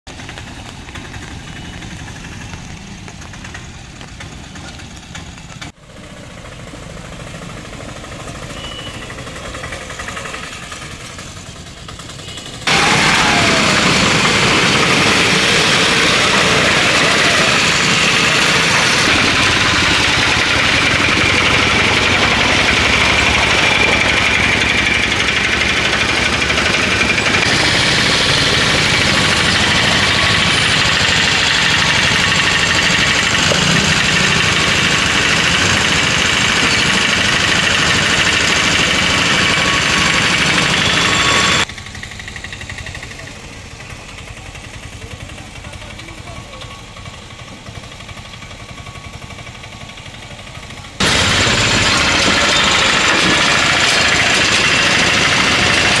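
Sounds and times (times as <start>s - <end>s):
autorickshaw engine drone: 0.0s - 56.0s.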